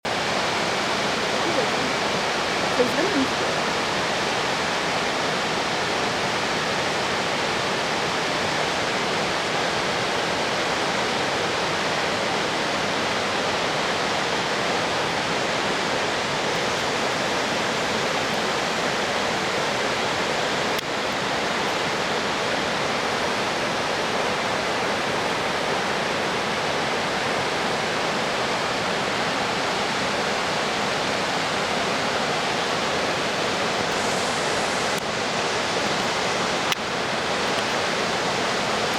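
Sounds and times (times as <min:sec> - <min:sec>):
water rushing through rocky gorge: 0:00.1 - 0:38.9.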